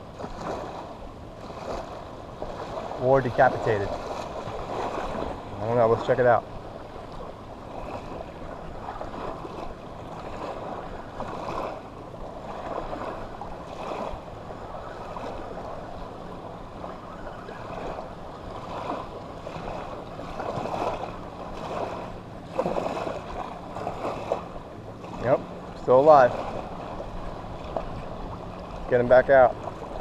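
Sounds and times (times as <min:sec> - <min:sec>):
small waves breaking on beach: 0:00.0 - 0:30.0.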